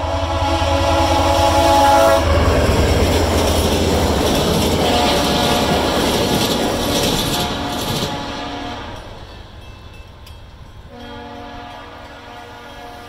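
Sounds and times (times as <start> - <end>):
train horn: 0.0 - 3.4, 4.1 - 9.3, 10.9 - 13.0
train rushing past: 0.0 - 13.0.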